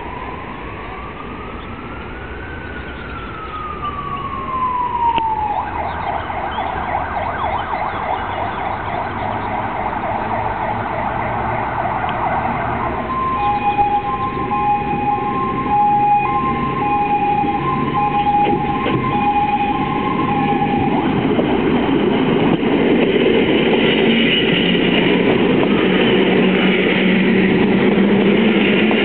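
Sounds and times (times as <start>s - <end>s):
emergency vehicle sirens: 0.0s - 29.0s.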